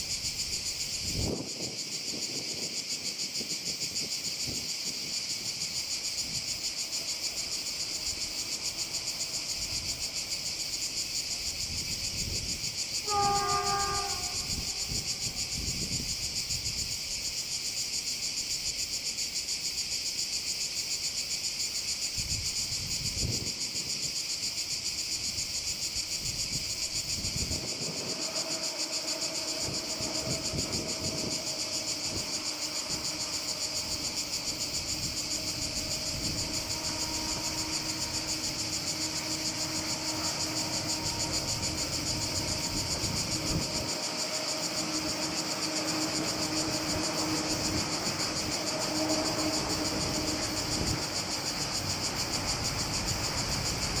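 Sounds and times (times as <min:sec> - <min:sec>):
distant train hum: 0:00.0 - 0:54.0
pulsing insect chorus: 0:00.0 - 0:54.0.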